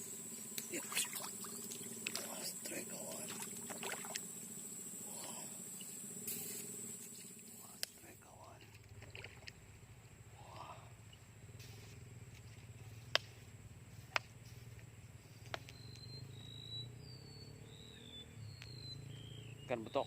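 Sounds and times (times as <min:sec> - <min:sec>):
high insect-like drone: 0:00.0 - 0:09.0, 0:09.8 - 0:20.0.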